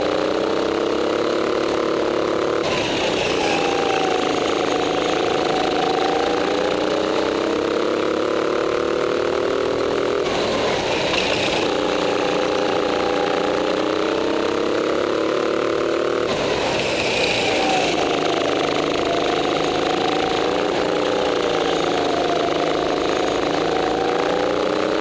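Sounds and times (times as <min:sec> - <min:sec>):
go-kart engine running hard: 0:00.0 - 0:25.0
tyres screeching: 0:00.0 - 0:25.0.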